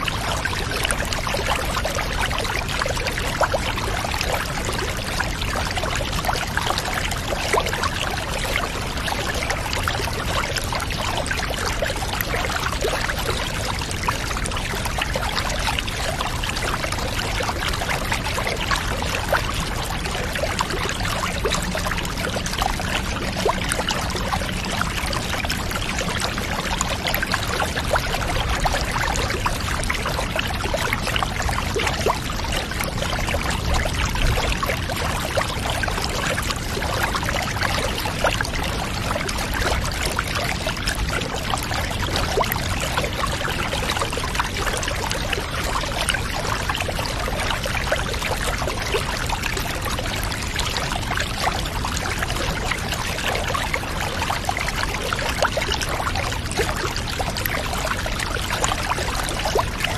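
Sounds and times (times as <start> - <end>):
small water splashes: 0.0 - 59.9
water trickling and pouring: 0.0 - 59.9.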